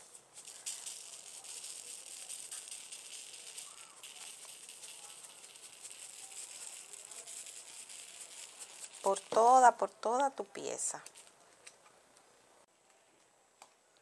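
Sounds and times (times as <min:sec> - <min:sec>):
glitter sprinkling from shaker jar: 0:00.0 - 0:11.8.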